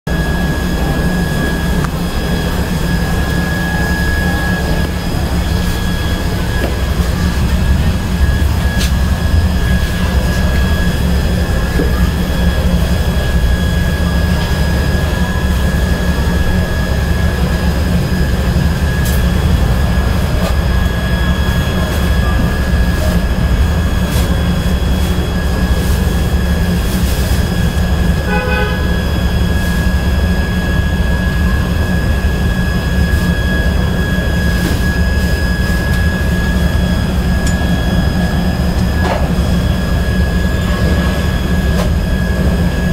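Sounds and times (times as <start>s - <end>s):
high-pitched whine: 0.1s - 42.9s
loud machine drone: 0.1s - 42.9s.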